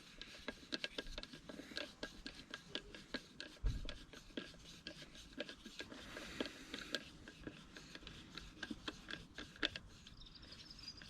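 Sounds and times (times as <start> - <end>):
screwdriver clicking and scraping: 0.0 - 11.0.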